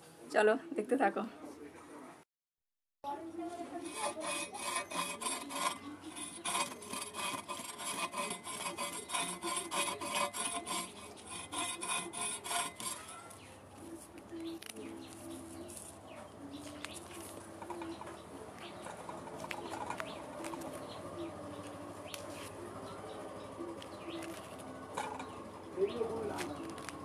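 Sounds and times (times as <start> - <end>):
stems scraped against a blade: 3.6 - 27.0.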